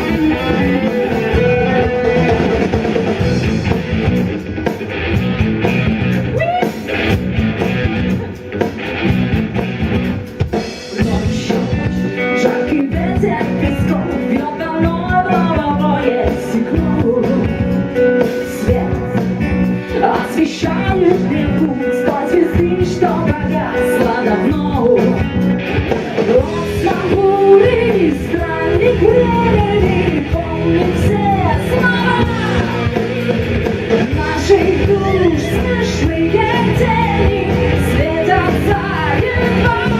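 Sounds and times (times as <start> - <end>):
song with drums and guitar: 0.0 - 39.9.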